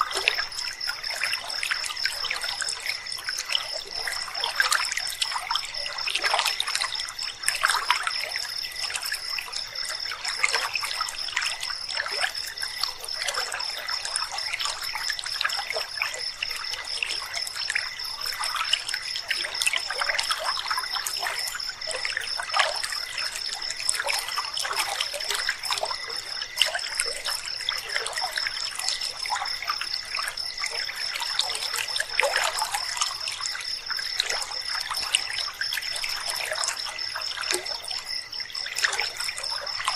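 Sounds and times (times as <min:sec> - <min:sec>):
night insects trilling: 0:00.0 - 0:39.9
river water babbling: 0:00.0 - 0:39.9.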